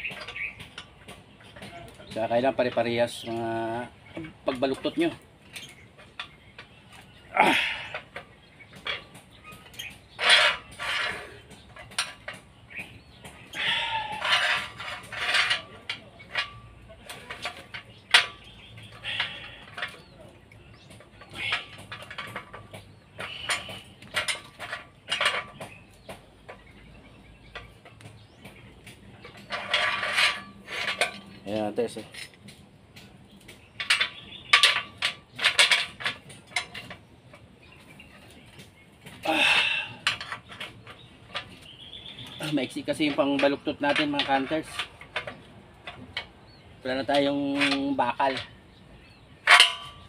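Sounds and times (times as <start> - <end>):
metal clinks of rebar against tool: 0.0 - 37.4, 39.1 - 50.0.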